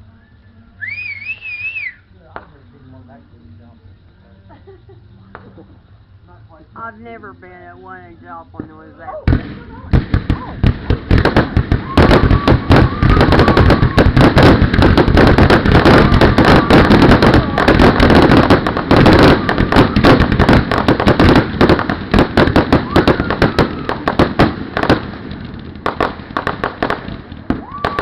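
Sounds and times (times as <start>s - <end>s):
fireworks bangs and crackles: 0.9s - 4.2s, 4.9s - 28.0s.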